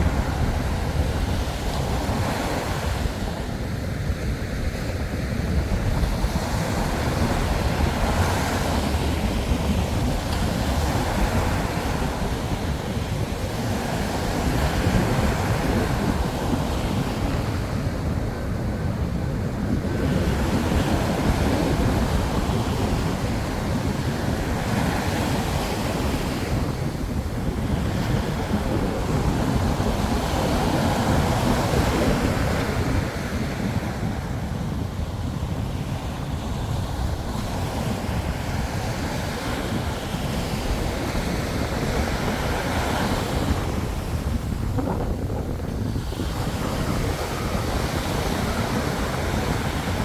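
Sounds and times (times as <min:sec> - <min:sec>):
sea waves breaking on shore: 0:00.0 - 0:50.0
wind on microphone: 0:00.0 - 0:50.0.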